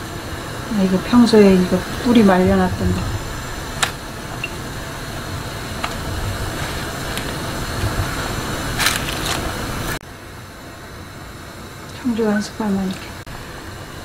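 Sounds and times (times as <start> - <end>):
pot boiling with bubbling hiss: 0.0 - 14.0.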